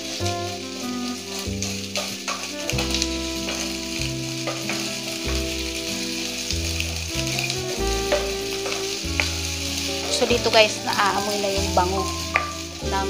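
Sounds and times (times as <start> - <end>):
onions sizzling in oil: 0.0 - 13.0
spoon stirring in pan: 0.0 - 13.0.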